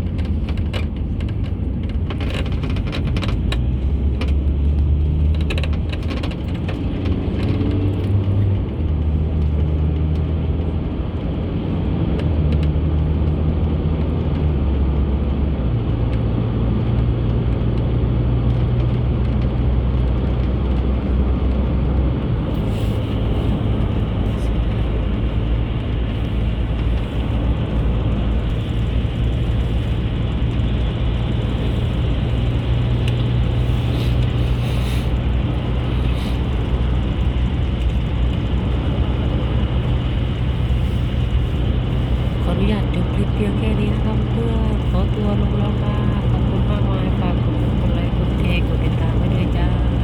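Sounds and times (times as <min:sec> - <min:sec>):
car road and engine drone: 0:00.0 - 0:50.0.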